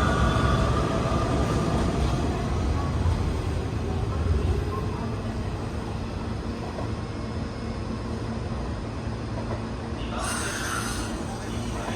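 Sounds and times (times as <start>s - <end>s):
electric train rumbling: 0.0s - 11.9s.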